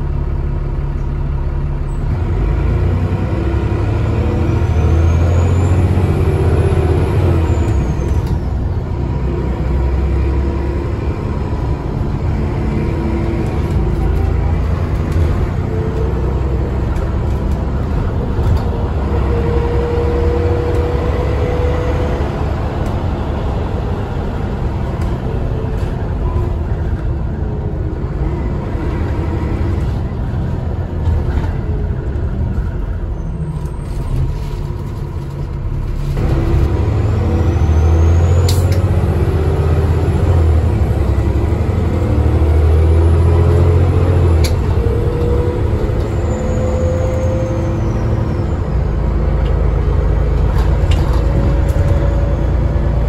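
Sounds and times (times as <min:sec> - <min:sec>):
bus diesel engine rumble: 0:00.0 - 0:53.0.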